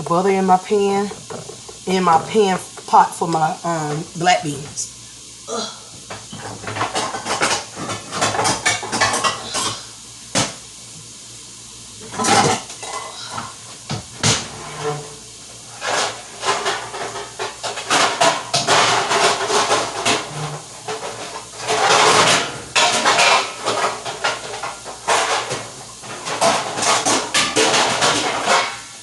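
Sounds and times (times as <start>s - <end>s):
pots and pans clattering: 0.0s - 4.9s, 6.0s - 10.7s, 12.0s - 29.0s.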